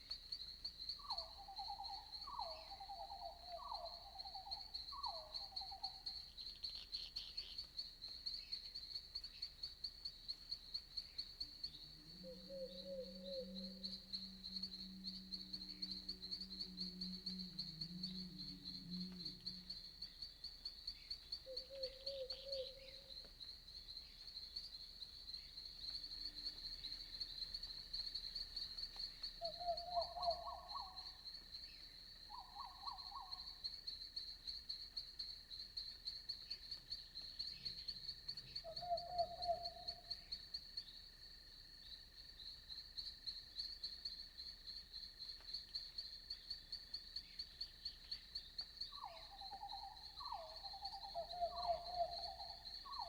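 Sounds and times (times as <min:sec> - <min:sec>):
night insects trilling: 0:00.0 - 0:53.0.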